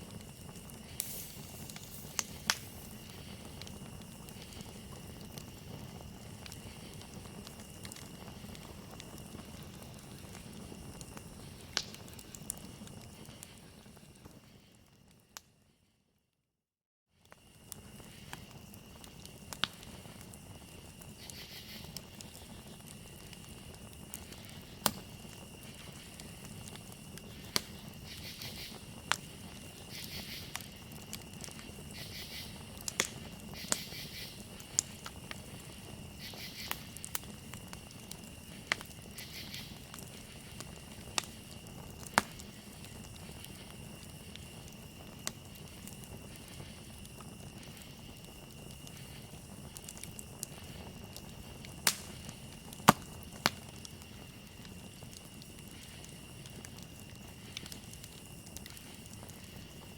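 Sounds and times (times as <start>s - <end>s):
pulsing insect calls: 0.0s - 14.8s, 17.4s - 59.9s
campfire crackling and popping: 0.0s - 15.7s, 17.2s - 59.9s
crickets trilling: 0.0s - 15.7s, 17.2s - 59.9s.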